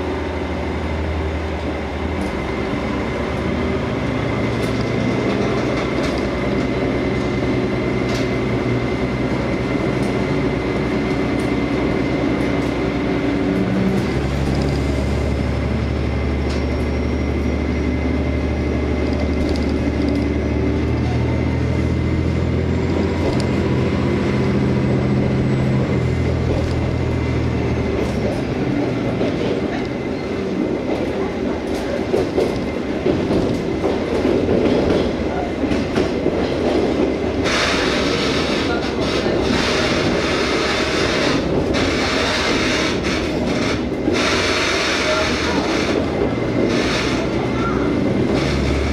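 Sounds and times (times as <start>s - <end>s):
diesel engine humming: 0.0s - 48.9s.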